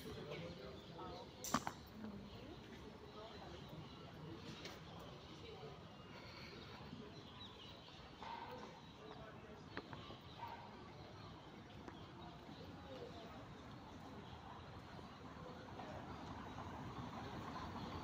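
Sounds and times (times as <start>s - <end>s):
faint street ambience: 0.0s - 18.0s.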